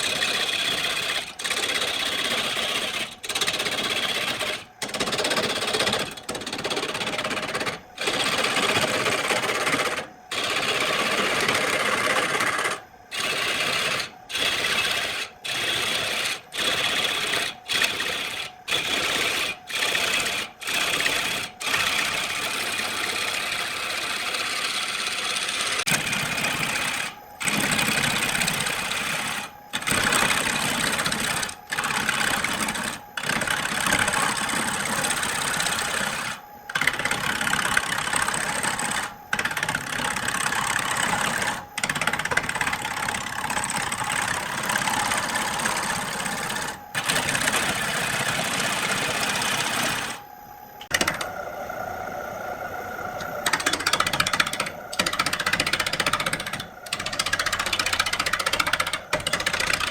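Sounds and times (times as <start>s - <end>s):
tool cutting spinning wood: 0.0s - 59.9s
wood lathe running: 0.0s - 59.9s.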